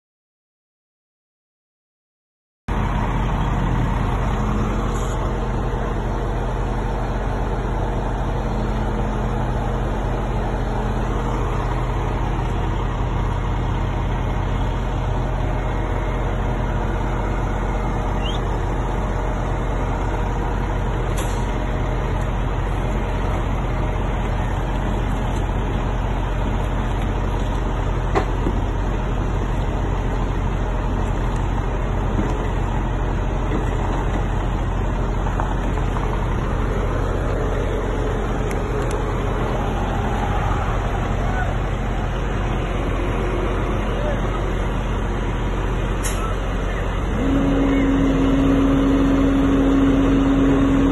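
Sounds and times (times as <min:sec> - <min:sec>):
diesel truck engine running: 0:02.7 - 0:50.9.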